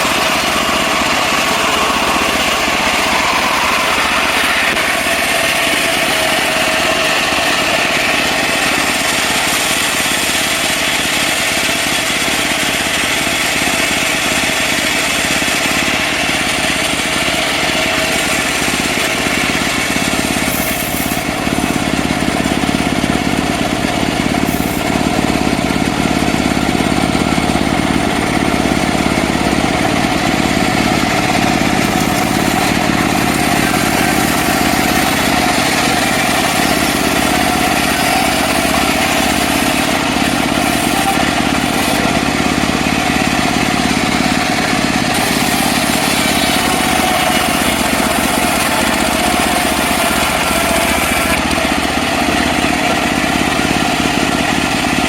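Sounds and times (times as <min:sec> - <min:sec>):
bandsaw sawing wood: 0:00.0 - 0:55.0
petrol engine running: 0:00.0 - 0:55.0.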